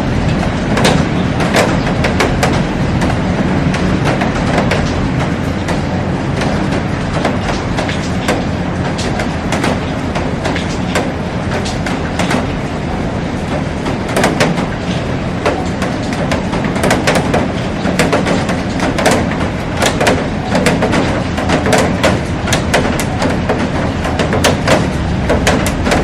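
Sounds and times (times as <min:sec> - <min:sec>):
heavy rain on glass roof: 0:00.0 - 0:26.0.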